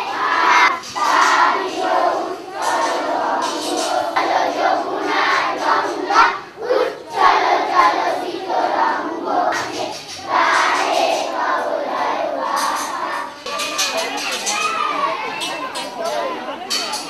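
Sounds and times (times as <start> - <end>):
children singing in unison: 0.0 - 16.7.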